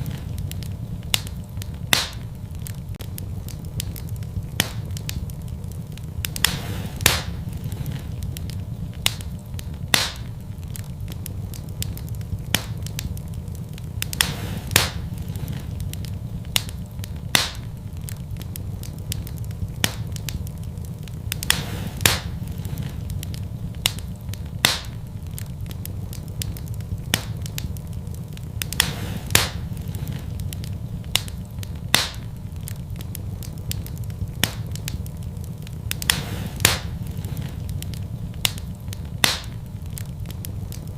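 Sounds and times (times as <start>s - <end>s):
logs crackling and popping: 0.0s - 40.9s
rumble of fire flames: 0.0s - 40.9s.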